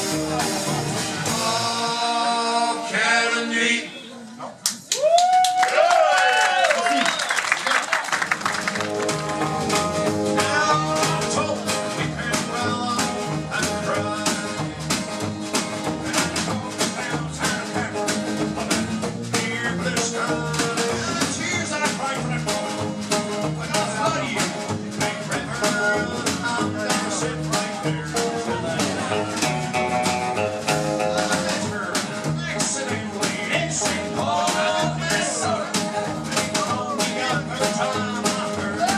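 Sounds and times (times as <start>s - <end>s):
live country band playing: 0.0s - 4.4s, 7.1s - 38.9s.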